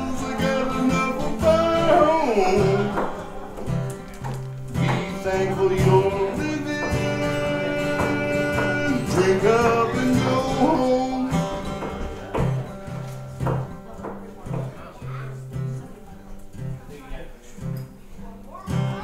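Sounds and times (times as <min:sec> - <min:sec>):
acoustic bluegrass band music: 0:00.0 - 0:17.0
plucked guitar: 0:00.0 - 0:19.0.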